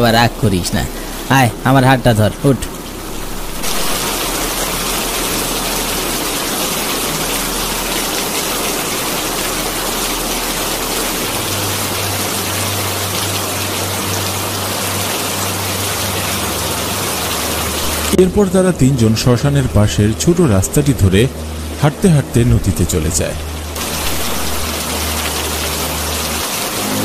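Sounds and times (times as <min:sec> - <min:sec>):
heavy rain falling: 0:00.0 - 0:27.0
low steady hum: 0:00.0 - 0:27.0.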